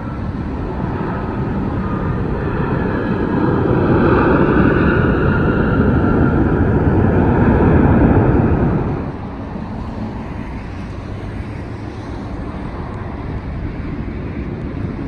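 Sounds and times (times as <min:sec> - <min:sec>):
jet engines at high thrust: 0:00.0 - 0:15.0
steady jet rumble: 0:00.0 - 0:15.0.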